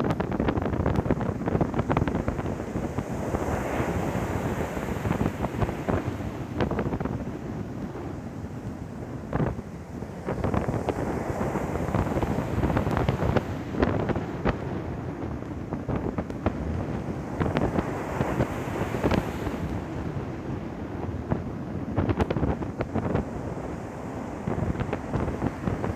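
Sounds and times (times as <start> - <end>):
breaking surf: 0.0 - 8.2, 9.3 - 25.9
wind buffeting microphone: 0.0 - 25.9.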